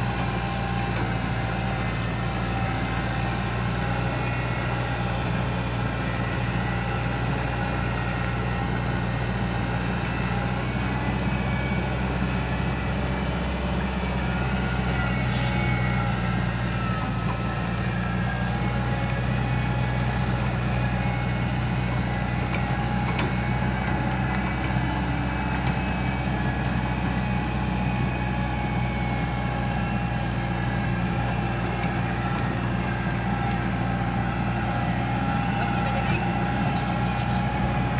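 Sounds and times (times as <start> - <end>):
diesel engine droning: 0.0 - 37.9.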